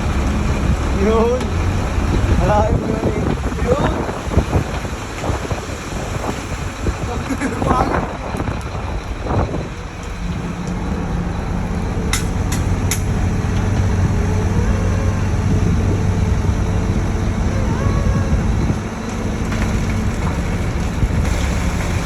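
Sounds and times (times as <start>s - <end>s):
heavy machinery engine humming: 0.0s - 22.0s.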